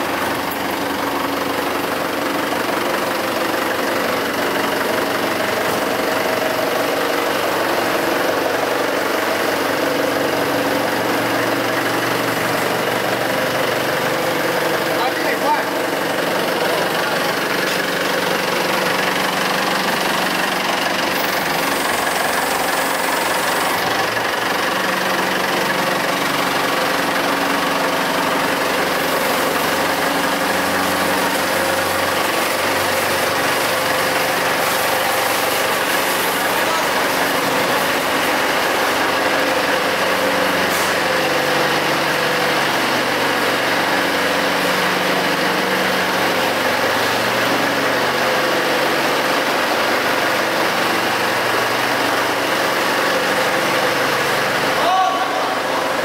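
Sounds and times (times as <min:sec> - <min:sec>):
forklift engine running: 0:00.0 - 0:56.0.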